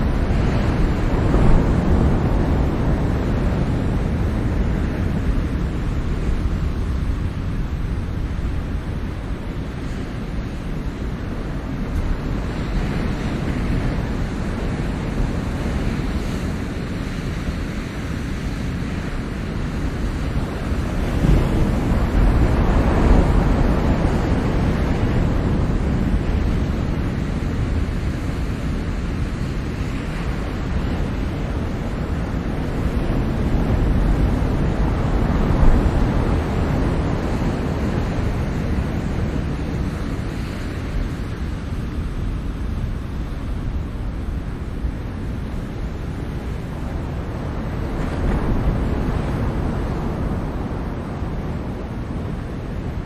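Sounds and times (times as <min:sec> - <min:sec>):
ocean waves washing on shore: 0:00.0 - 0:53.0
wind on microphone: 0:00.0 - 0:53.0.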